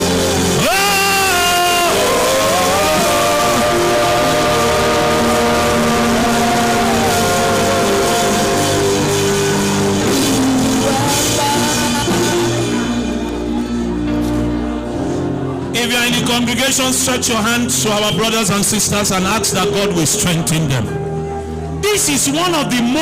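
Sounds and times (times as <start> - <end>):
loud band music: 0.0 - 23.0.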